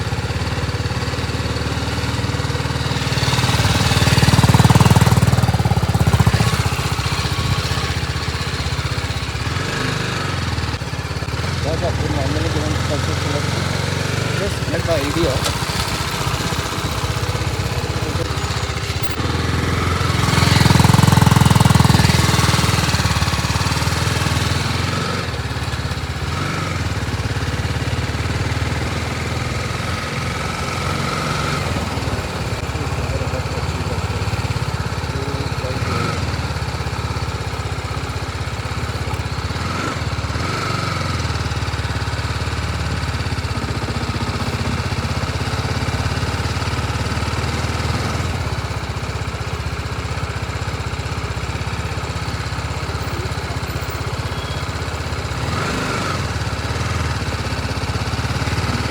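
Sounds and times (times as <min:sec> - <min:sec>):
motorcycle engine idling: 0:00.0 - 0:58.9.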